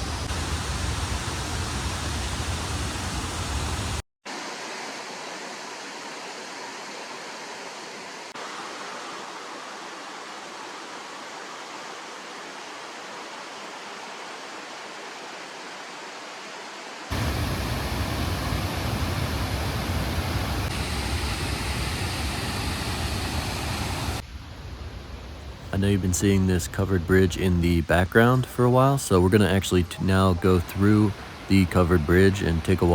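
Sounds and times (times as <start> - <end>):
waterfall and river rushing: 0.0 - 24.8, 25.4 - 32.9.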